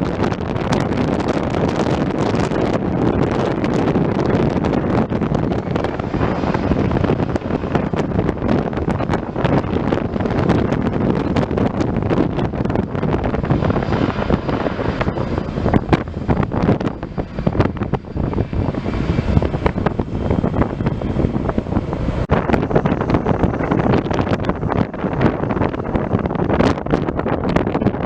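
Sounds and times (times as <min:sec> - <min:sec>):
airliner engines: 0:00.0 - 0:28.0
wind buffeting microphone: 0:00.0 - 0:28.0.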